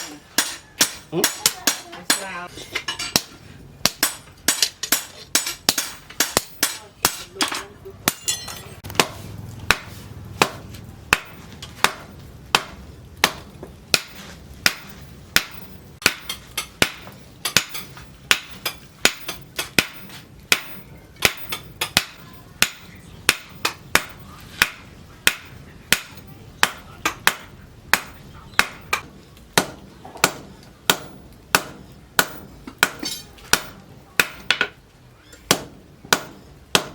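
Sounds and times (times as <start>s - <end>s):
hammer striking steel on anvil: 0.0s - 34.8s.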